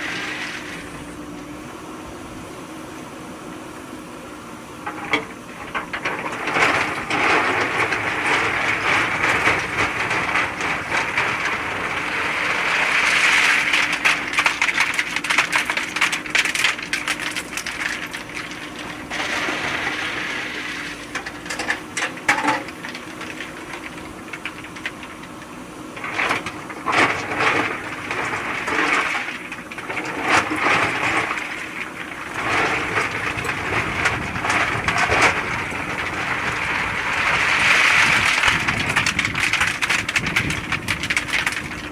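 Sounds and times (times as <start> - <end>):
backhoe clattering and scraping: 0.0 - 41.9
diesel engine running: 0.0 - 41.9.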